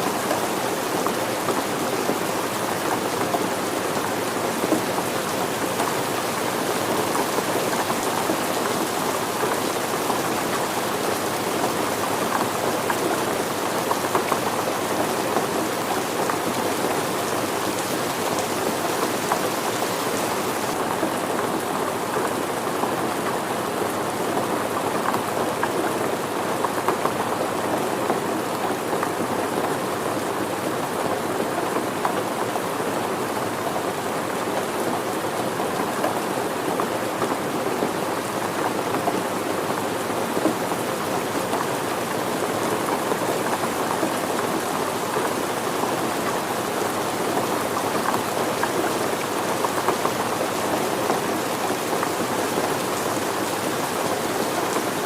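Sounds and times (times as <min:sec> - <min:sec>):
rain patter on surfaces: 0:00.0 - 0:55.0.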